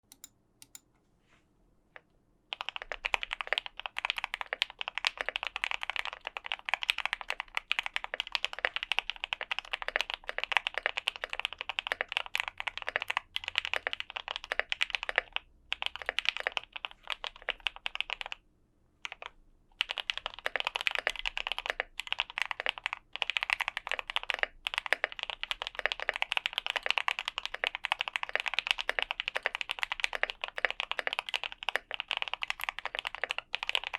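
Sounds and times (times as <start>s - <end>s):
fast mechanical keyboard typing: 2.5s - 18.4s, 19.0s - 33.9s.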